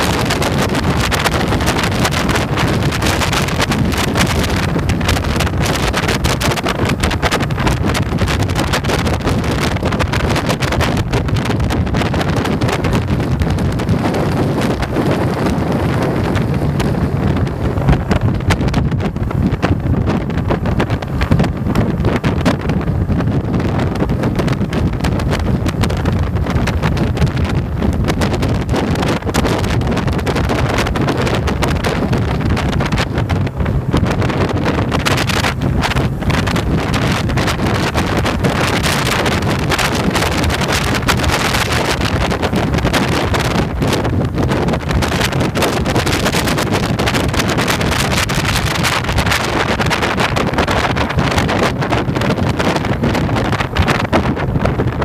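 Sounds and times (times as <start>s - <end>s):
motorcycle engine rumbling: 0.0s - 55.0s
wind buffeting microphone: 0.0s - 55.0s.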